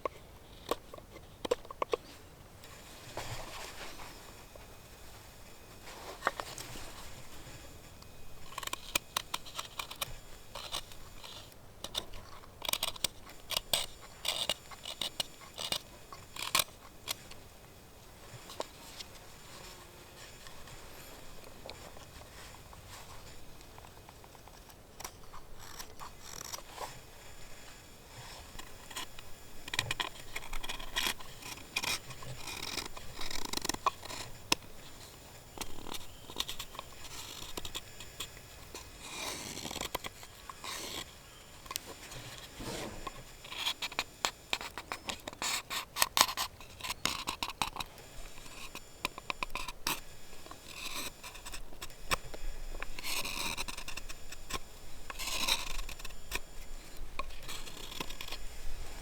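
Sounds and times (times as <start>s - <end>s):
scraping and scratching strokes: 5.7s - 17.4s, 18.2s - 59.0s.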